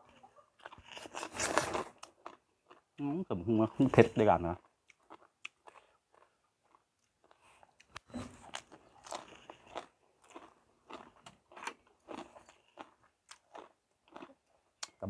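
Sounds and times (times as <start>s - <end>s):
crisp chewing crunches: 0.0s - 15.0s.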